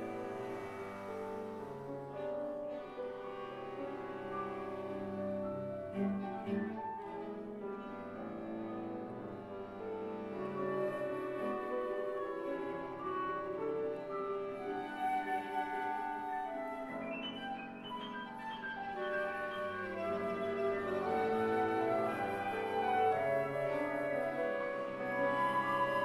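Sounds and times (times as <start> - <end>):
chamber ensemble playing: 0.0 - 26.0.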